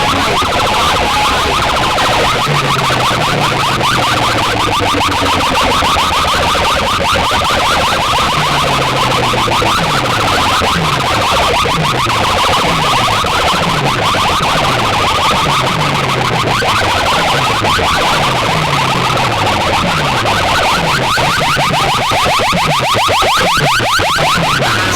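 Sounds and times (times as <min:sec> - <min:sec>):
siren-like electronic effect: 0:00.0 - 0:24.9.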